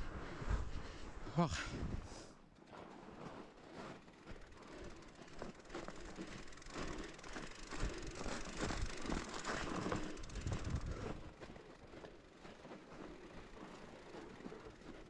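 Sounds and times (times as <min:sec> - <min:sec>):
bicycle rattling and clicking: 0:02.6 - 0:15.0.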